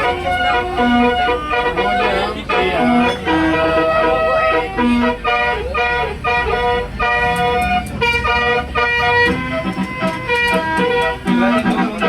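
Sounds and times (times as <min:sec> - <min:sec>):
bus horn playing a tune: 0:00.0 - 0:12.0.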